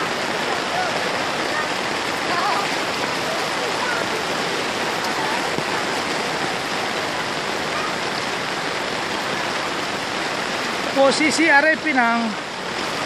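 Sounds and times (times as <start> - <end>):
water running over street: 0.0 - 13.0.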